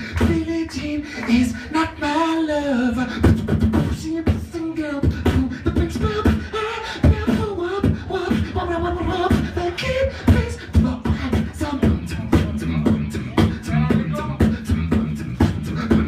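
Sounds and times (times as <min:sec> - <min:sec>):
beatboxing kick and snare: 0:00.0 - 0:01.7, 0:03.0 - 0:16.0
wordless vocal melody: 0:00.0 - 0:16.0.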